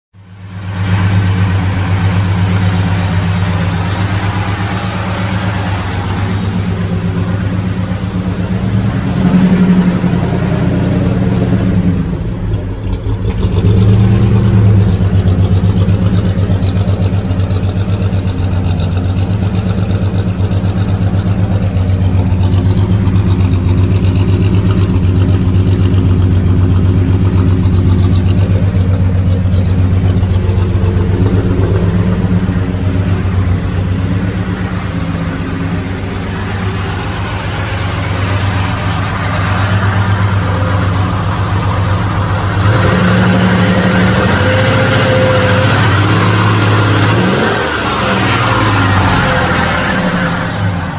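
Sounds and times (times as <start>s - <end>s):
truck engine idling: 0.1s - 50.9s.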